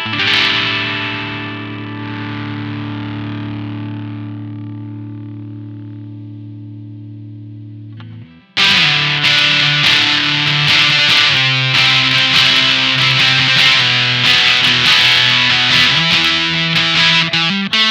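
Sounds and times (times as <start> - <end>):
fuzz electric guitar: 0.0 - 17.9.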